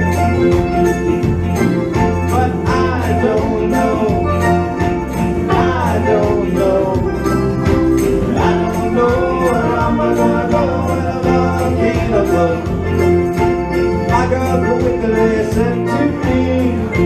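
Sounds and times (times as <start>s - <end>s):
jingling percussion: 0.0s - 17.0s
song with beat and bass: 0.0s - 17.0s.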